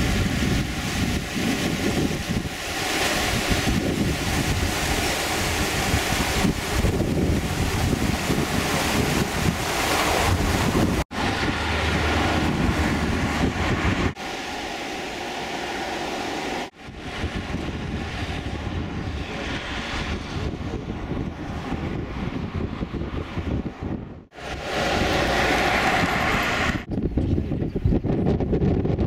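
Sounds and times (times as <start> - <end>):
wind buffeting microphone: 0.0 - 14.2, 16.7 - 29.0
heavy low rumble: 0.0 - 27.6
outdoor rush: 0.0 - 27.6.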